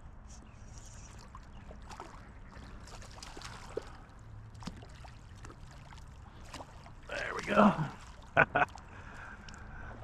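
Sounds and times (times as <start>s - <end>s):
creek water trickling: 0.2s - 10.0s.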